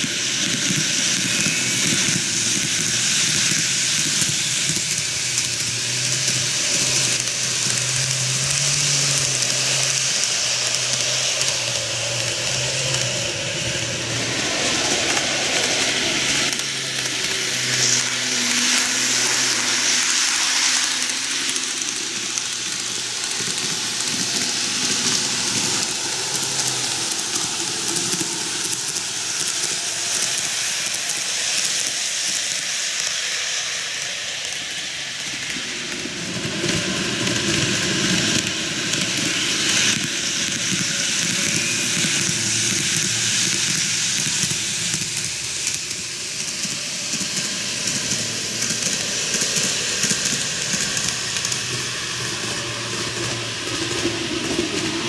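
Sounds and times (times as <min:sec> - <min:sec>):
model train rolling on track: 0:00.0 - 0:55.0.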